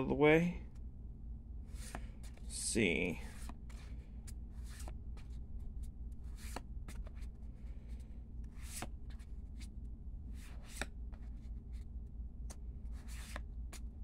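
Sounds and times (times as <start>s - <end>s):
steady low hum: 0.0s - 14.0s
cards swishing against cards: 1.7s - 14.0s.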